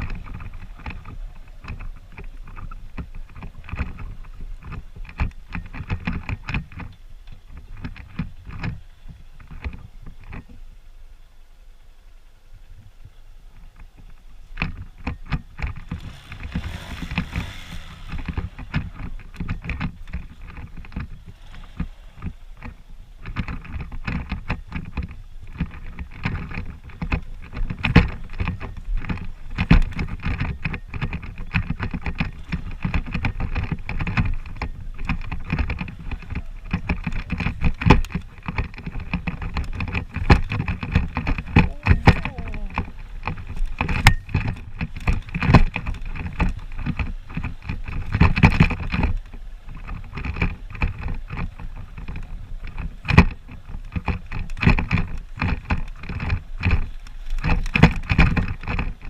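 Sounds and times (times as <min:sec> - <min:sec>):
knocks and rattles from bumps: 0:00.0 - 0:10.7, 0:13.6 - 0:59.0
motorcycle engine running: 0:00.0 - 0:59.0.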